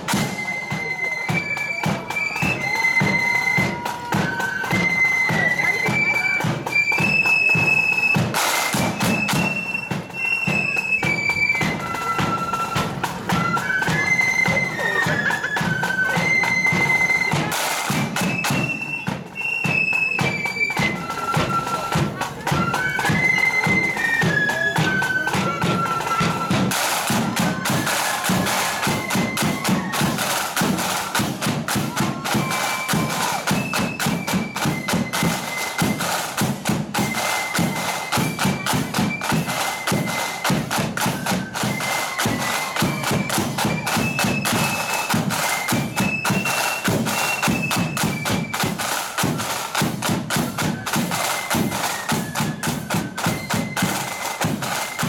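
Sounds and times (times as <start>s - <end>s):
flute melody: 0.0s - 55.0s
snare drums: 0.0s - 55.0s.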